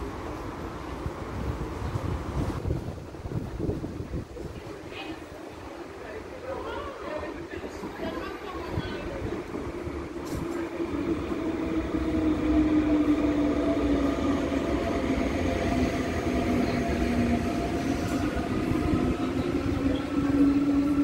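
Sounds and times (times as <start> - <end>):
train rumbling and humming: 0.0 - 21.0.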